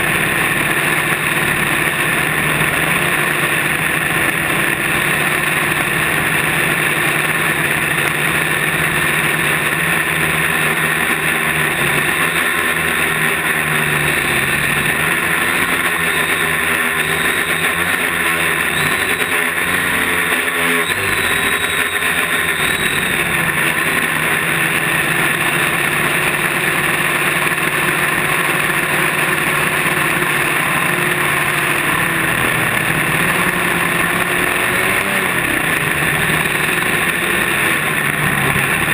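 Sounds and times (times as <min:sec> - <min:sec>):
drone propellers buzzing: 0:00.0 - 0:38.9.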